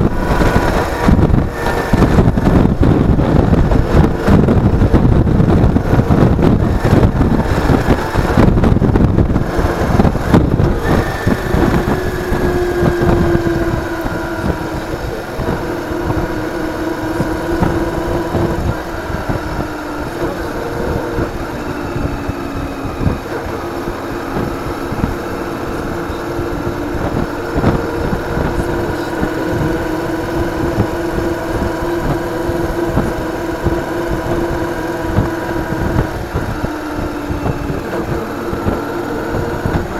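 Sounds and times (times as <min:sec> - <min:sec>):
vehicle engine running: 0:00.0 - 0:39.9
wind buffeting microphone: 0:00.0 - 0:39.9.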